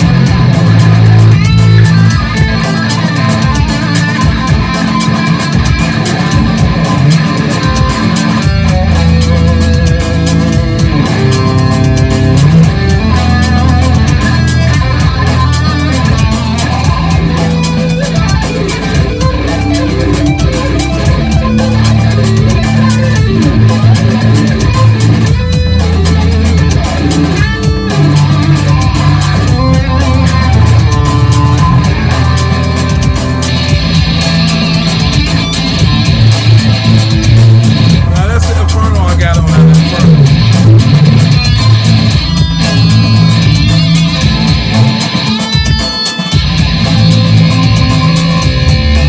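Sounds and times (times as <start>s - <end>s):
electric guitar through effects: 0.0s - 49.0s
steady beat: 0.0s - 49.0s.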